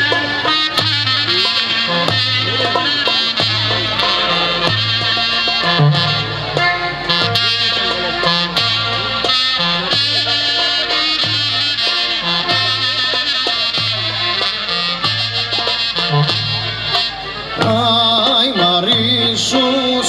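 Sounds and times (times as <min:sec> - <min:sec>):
two-note bass line: 0:00.0 - 0:19.9
clarinet-led folk dance music: 0:00.0 - 0:20.0.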